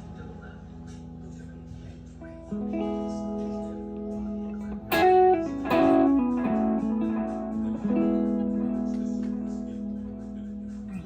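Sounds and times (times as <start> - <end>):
electric guitar chords ringing: 2.1 - 11.0.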